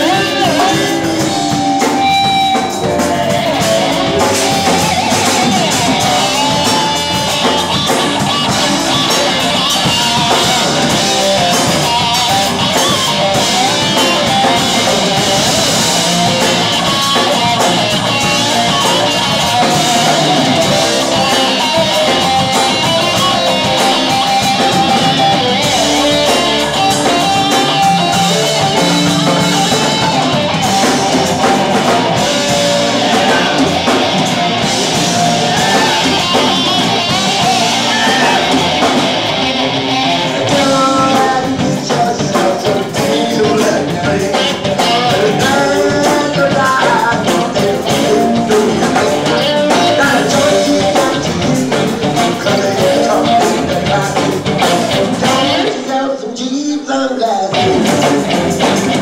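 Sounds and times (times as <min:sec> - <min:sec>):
drum kit: 0:00.0 - 0:56.0, 0:57.5 - 0:59.0
electric guitar: 0:00.0 - 0:59.0.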